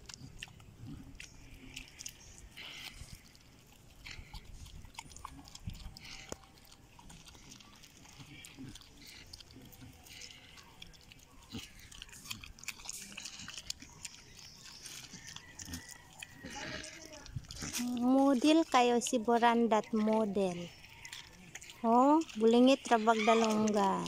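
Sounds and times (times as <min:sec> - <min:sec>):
pig chewing: 0:00.0 - 0:24.0.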